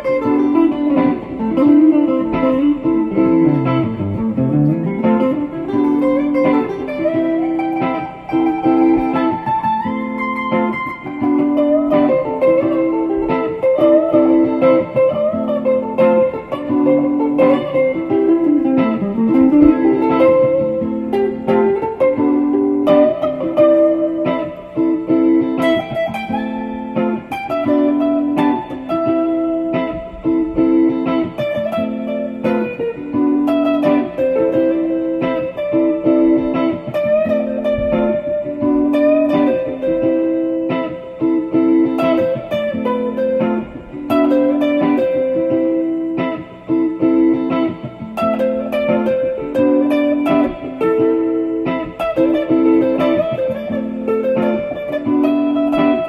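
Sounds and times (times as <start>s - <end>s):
plucked melody music: 0.0s - 56.0s.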